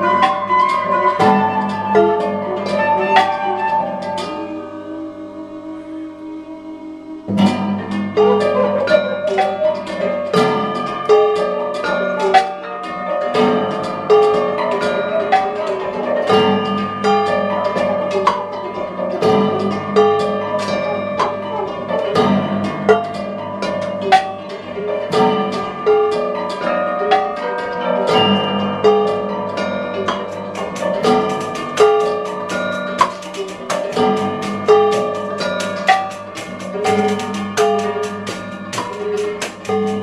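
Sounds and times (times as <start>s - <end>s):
guitar: 0.0s - 40.0s
hammered dulcimer: 0.0s - 40.0s
percussion: 0.0s - 40.0s
piano: 0.0s - 40.0s.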